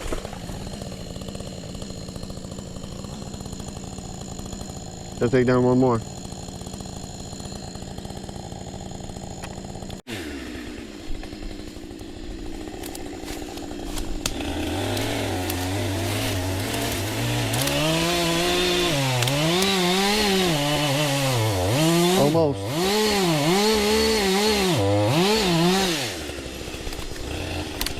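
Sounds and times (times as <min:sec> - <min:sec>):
chainsaw cutting wood: 0:00.0 - 0:27.9
chainsaw running and revving: 0:00.0 - 0:27.9.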